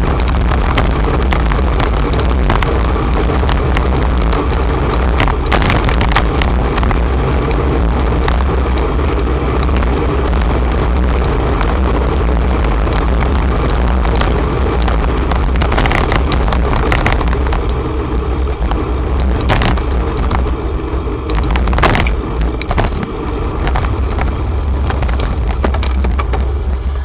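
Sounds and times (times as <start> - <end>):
car traffic noise: 0.0 - 27.0
sharp clicks and knocks: 0.0 - 27.0
wind rumbling on microphone: 0.0 - 27.0.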